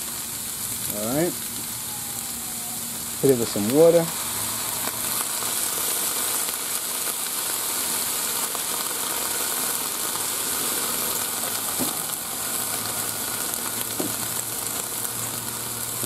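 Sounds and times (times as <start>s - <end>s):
vegetables sizzling on griddle: 0.0s - 16.0s
water hissing into steam: 0.0s - 16.0s.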